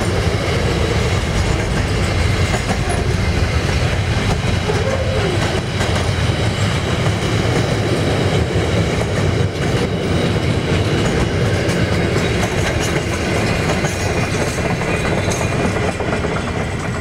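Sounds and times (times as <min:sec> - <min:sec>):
freight train rolling past: 0:00.0 - 0:17.0
wheels clattering over rail joints: 0:00.0 - 0:17.0.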